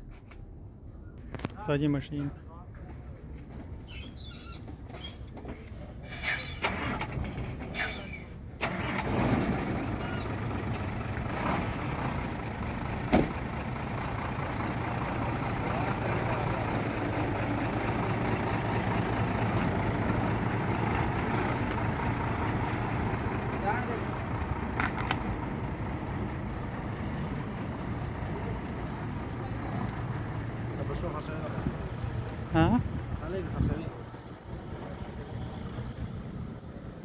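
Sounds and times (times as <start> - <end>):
diesel engine starting and idling: 3.9 - 37.0.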